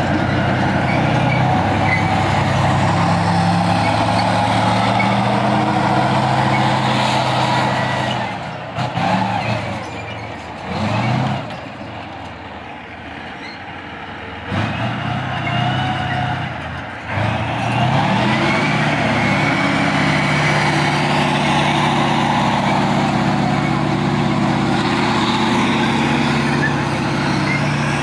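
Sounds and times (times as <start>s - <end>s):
engine revving: 0.0s - 10.0s, 10.6s - 11.6s, 14.4s - 28.0s
tank diesel engine driving past: 0.0s - 28.0s.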